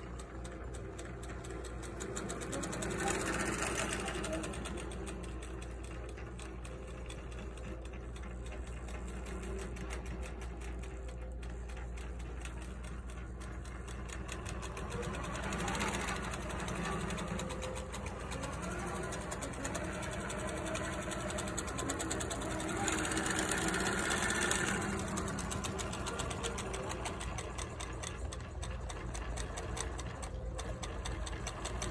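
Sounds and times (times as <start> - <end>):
quilting machine stitching: 0.0 - 31.9.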